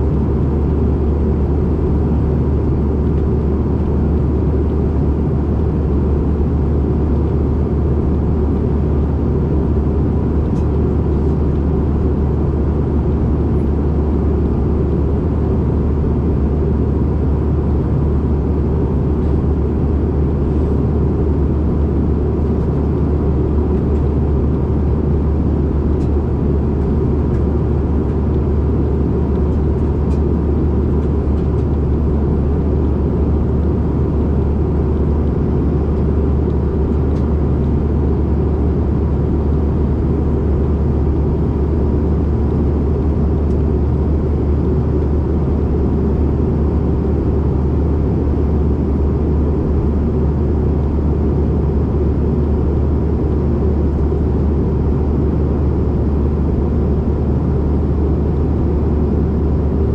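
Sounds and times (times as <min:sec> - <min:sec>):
jet cabin drone: 0:00.0 - 0:59.9.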